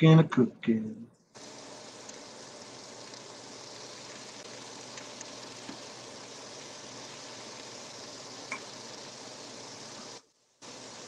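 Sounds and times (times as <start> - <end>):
vegetables sizzling in a frying pan: 1.4 - 11.0.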